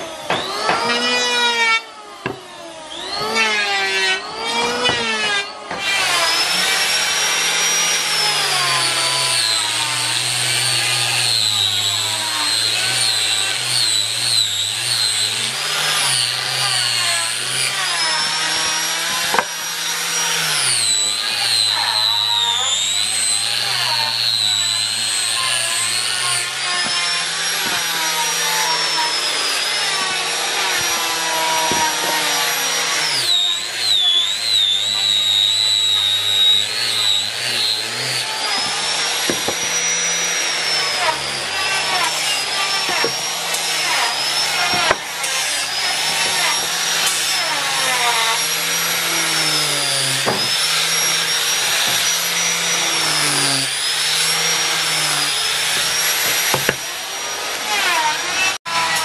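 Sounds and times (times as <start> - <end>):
angle grinder sanding wood: 0.0 - 59.0.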